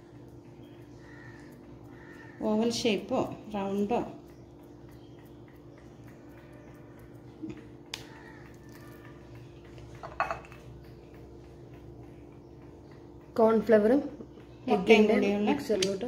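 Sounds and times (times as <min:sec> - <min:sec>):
quiet steady hum: 0:00.0 - 0:16.0.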